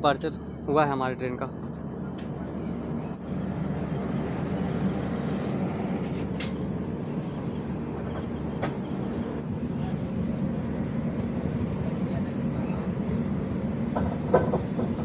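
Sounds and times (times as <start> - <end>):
train coach rumbling: 0.0 - 15.0
insect chirring: 0.1 - 15.0.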